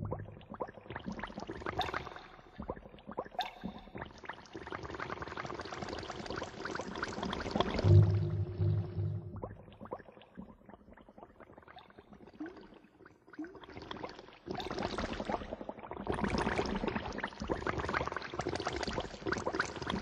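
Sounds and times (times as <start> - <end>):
crackling and bubbling noise: 0.0 - 20.0.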